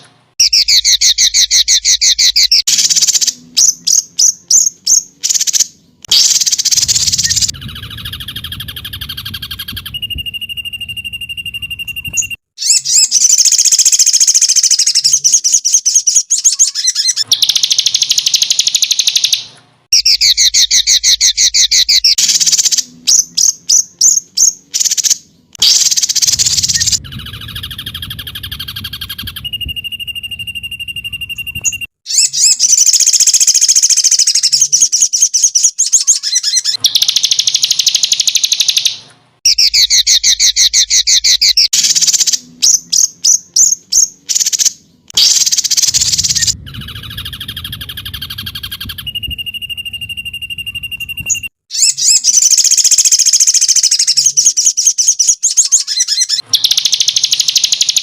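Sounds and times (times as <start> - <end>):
bird chirps and trills: 0.0 - 58.0
high bird whistle: 0.0 - 58.0.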